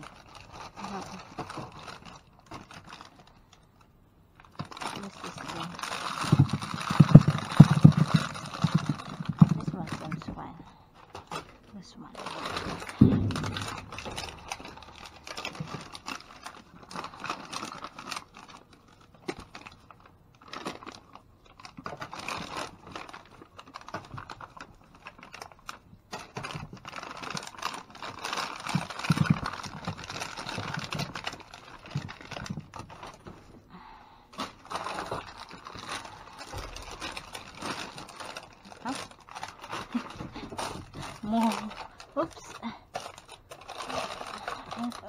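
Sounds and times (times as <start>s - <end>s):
plastic bags rustling: 0.0s - 45.0s.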